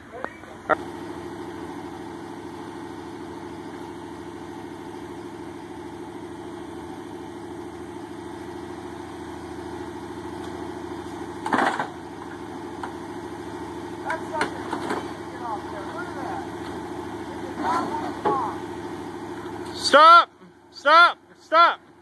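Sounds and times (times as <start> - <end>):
winch motor running: 0.4 - 20.0.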